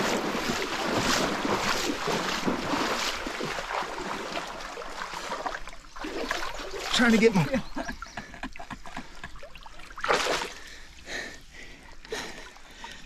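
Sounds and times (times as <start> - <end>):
creek water sloshing and splashing: 0.0 - 13.0.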